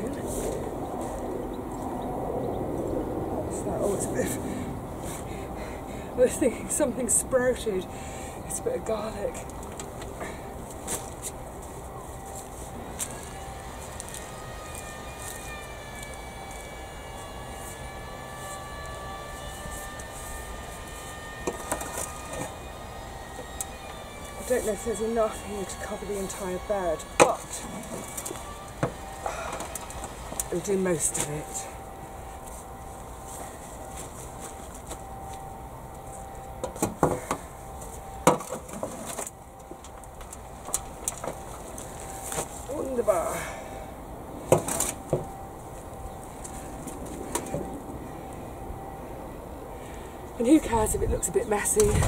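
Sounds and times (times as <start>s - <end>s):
aircraft passing overhead: 0.0s - 52.0s.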